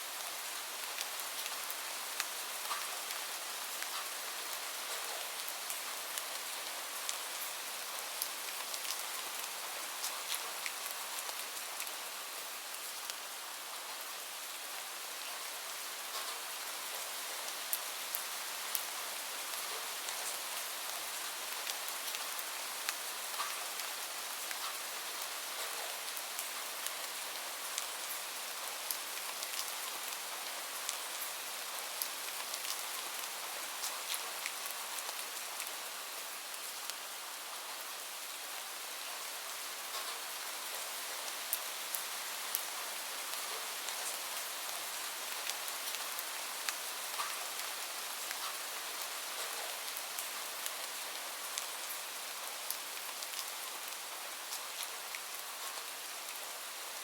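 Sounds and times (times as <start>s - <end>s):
rain hiss: 0.0s - 57.0s.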